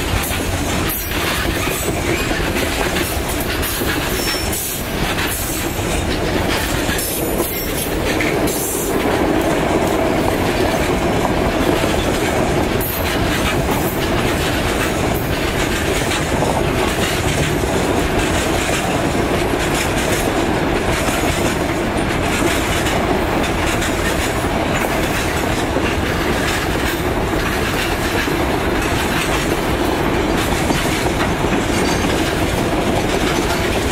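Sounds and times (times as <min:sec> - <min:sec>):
train wheels rolling on rails: 0:00.0 - 0:33.9.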